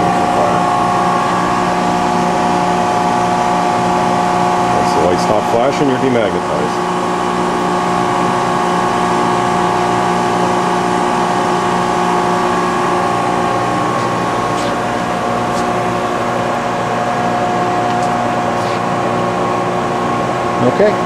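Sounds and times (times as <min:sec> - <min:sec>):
electric motors humming: 0:00.0 - 0:21.0.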